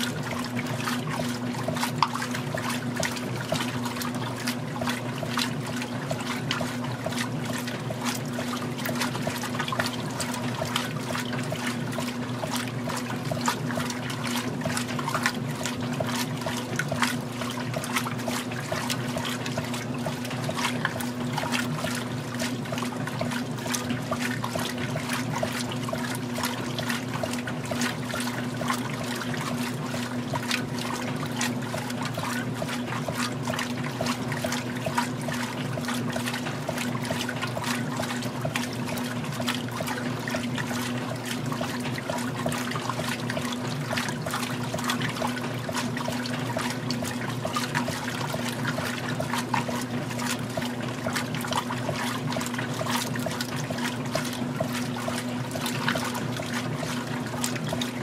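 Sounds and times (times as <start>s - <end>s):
motor hum: 0.0s - 58.0s
water sloshing in washing machine: 0.0s - 58.0s.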